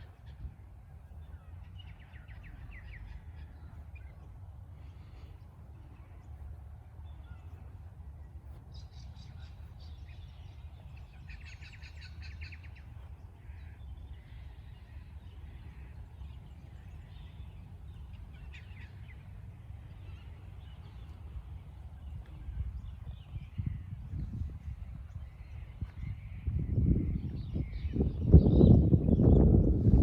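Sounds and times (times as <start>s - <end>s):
birds chirping in trills: 0.0s - 29.9s
steady low rumble: 0.0s - 30.0s.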